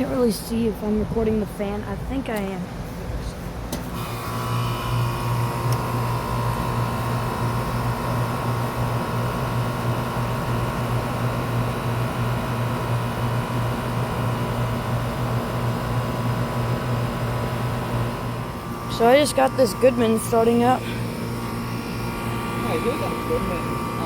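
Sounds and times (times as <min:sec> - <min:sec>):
compressor hum: 0:00.0 - 0:24.0
condenser fan whirring: 0:00.0 - 0:24.0.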